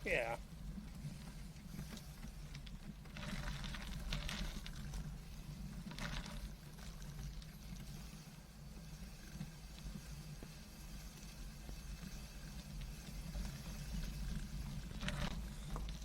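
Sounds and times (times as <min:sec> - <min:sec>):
bicycle rumbling on dirt trail: 0:00.0 - 0:16.0
gravelly tyre noise: 0:00.2 - 0:16.0
small ticks and rattles: 0:00.2 - 0:16.0.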